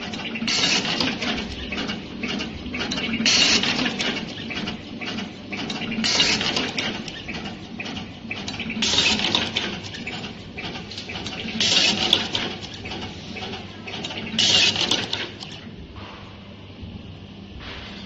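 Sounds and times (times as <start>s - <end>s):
machine mechanism clattering: 0.0s - 15.7s
machine hissing: 0.0s - 16.3s.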